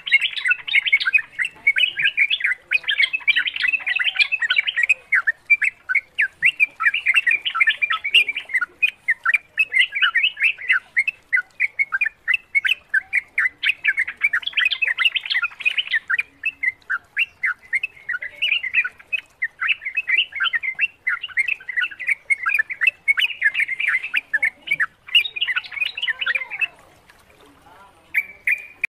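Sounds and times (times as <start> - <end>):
bird chattering song: 0.0 - 28.9.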